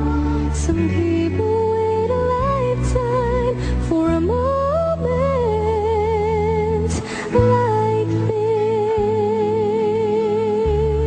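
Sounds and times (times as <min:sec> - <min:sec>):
woman singing pop ballad: 0:00.0 - 0:11.0.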